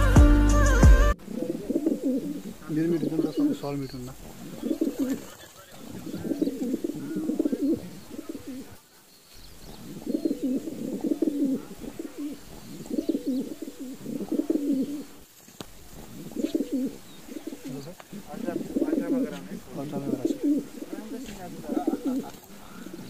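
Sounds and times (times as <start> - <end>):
pigeons cooing: 1.2 - 23.0.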